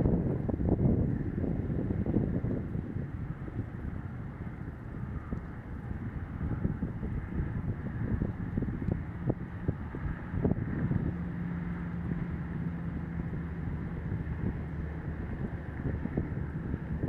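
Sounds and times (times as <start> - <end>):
helicopter low drone: 0.0 - 17.0
wind buffeting microphone: 0.0 - 17.0.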